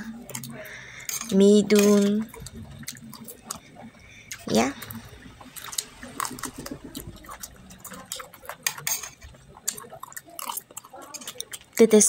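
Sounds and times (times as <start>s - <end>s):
chewing and mouth clicks: 0.0s - 12.0s.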